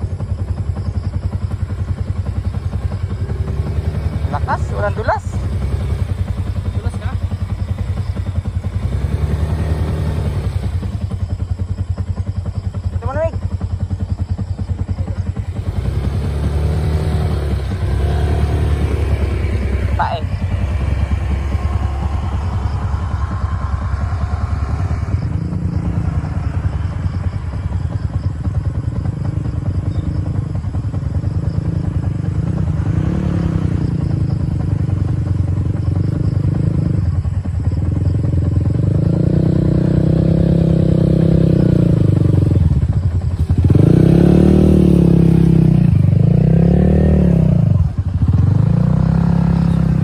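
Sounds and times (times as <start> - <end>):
motor scooter engines: 0.0 - 50.0.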